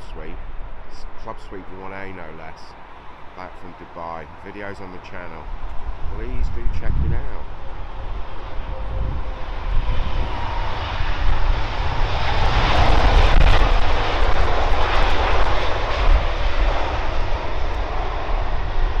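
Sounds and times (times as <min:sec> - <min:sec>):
jet engine roar flying past: 0:00.0 - 0:19.0.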